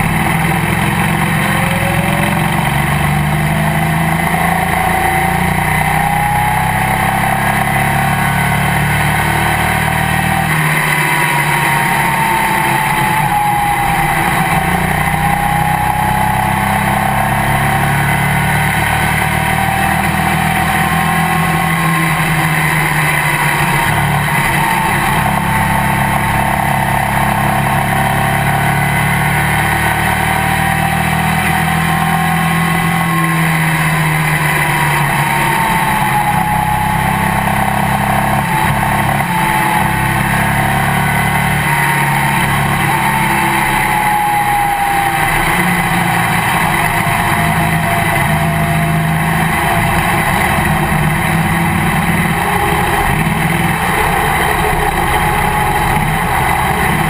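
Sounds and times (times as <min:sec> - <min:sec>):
high engine whine: 0:00.0 - 0:57.0
race car engine running: 0:00.0 - 0:57.0.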